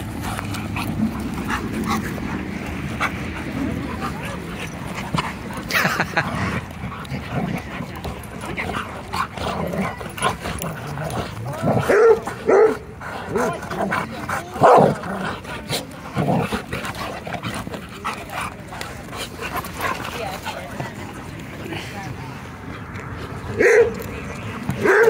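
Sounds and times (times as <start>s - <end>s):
dogs barking and growling: 0.0s - 21.4s, 23.3s - 25.0s.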